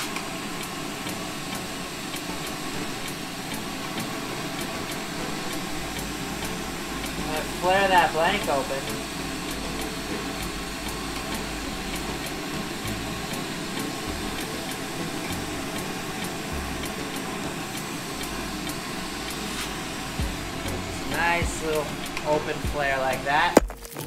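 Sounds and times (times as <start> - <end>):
torch flame hissing: 0.0 - 24.0.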